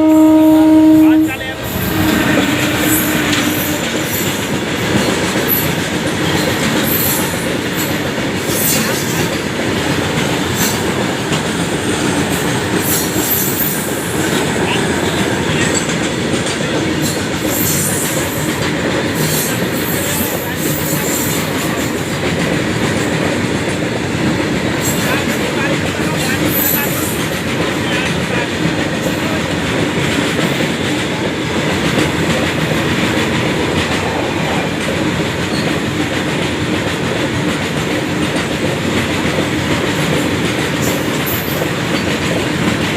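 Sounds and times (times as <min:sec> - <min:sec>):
freight train rumbling past: 0:00.0 - 0:42.9
wheels clicking on rails: 0:01.6 - 0:42.9.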